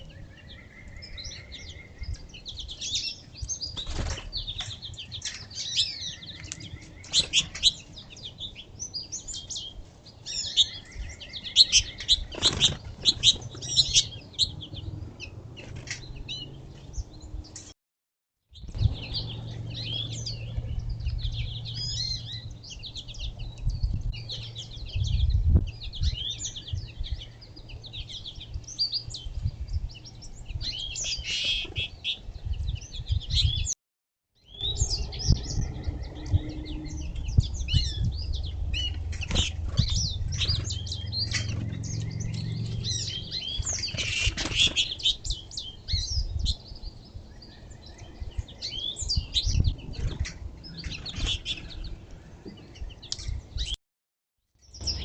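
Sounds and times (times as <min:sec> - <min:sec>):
songbirds chirping and twittering: 0:00.0 - 0:17.8, 0:18.5 - 0:33.8, 0:34.4 - 0:53.8, 0:54.5 - 0:55.0.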